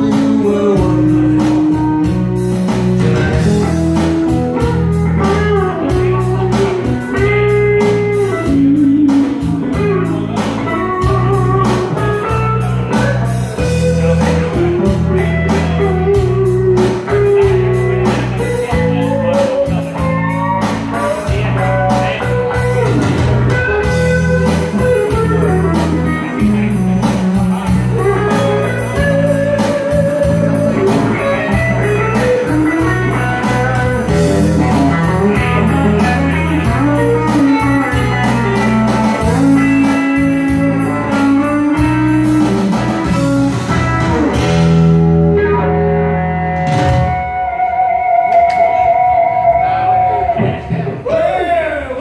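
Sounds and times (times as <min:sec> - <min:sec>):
steady beat: 0:00.0 - 0:45.4
electric guitar lead: 0:00.0 - 0:51.4
bass notes: 0:00.0 - 0:52.0.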